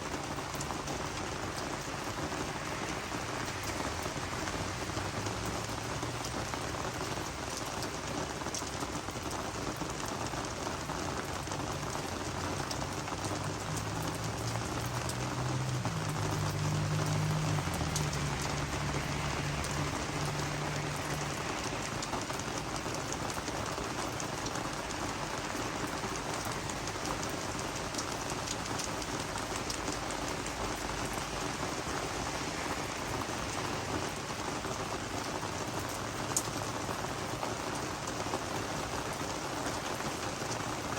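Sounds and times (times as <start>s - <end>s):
rain on plants: 0.0s - 40.9s.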